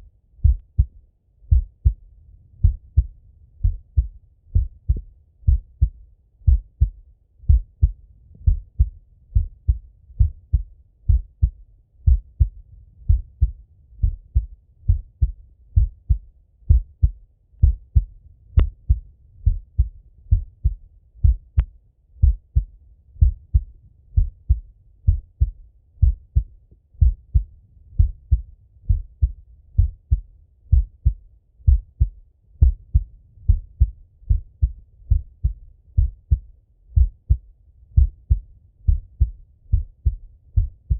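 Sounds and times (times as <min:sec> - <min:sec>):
heartbeat through stethoscope: 0:00.4 - 0:40.9.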